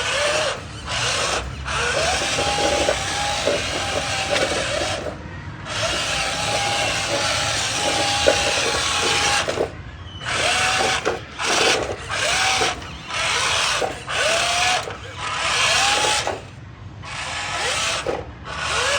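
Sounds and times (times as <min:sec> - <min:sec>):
electric motor and gearbox whirring: 0:00.0 - 0:18.9.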